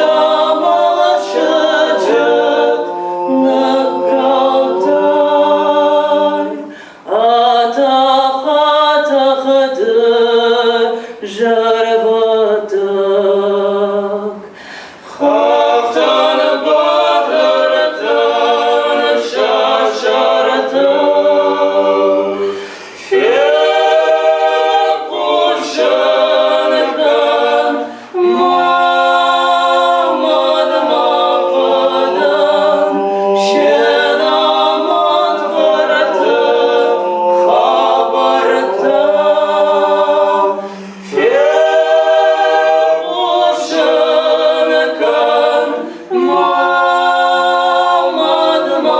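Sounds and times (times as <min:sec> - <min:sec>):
group singing a cappella: 0:00.0 - 0:48.9.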